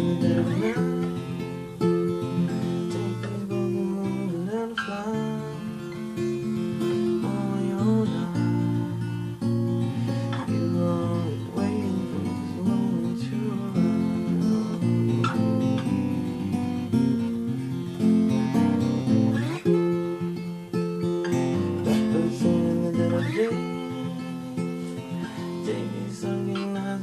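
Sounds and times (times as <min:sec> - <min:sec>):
fingerpicked acoustic guitar: 0:00.0 - 0:27.0.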